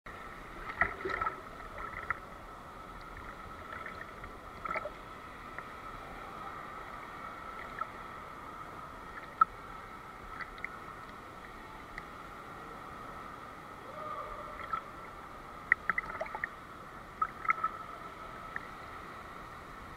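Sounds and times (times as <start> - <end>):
pool water splashing: 0.2 - 13.0, 13.8 - 19.9.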